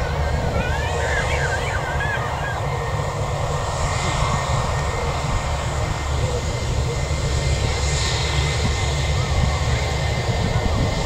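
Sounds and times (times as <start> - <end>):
airliner engines running: 0.0 - 11.0.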